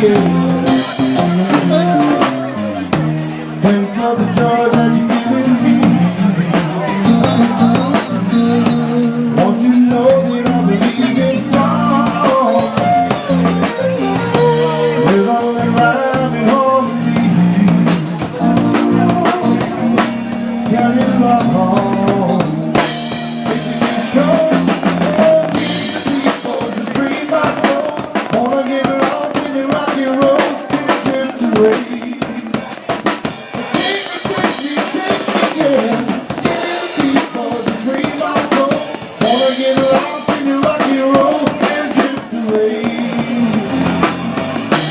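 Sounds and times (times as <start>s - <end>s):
music with drum kit beat: 0.0s - 44.9s.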